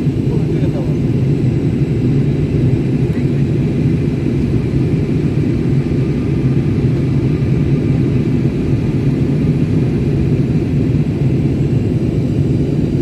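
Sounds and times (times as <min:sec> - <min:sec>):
airliner engine drone in cabin: 0:00.0 - 0:13.0.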